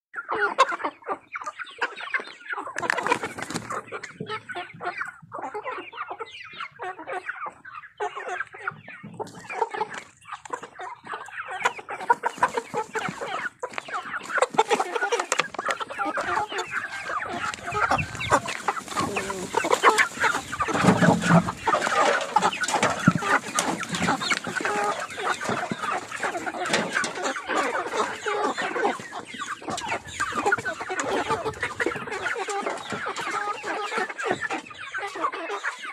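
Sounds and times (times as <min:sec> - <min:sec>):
chickens clucking: 0:00.2 - 0:35.9.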